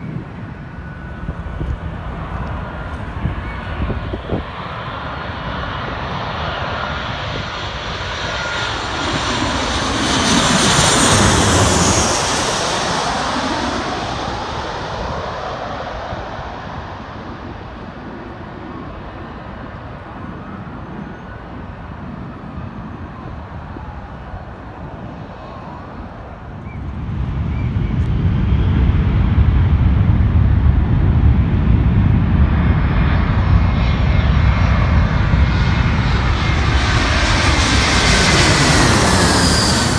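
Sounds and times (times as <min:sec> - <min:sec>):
airliner engine whine overhead: 0:00.0 - 0:39.9
deep low aircraft rumble: 0:00.0 - 0:39.9.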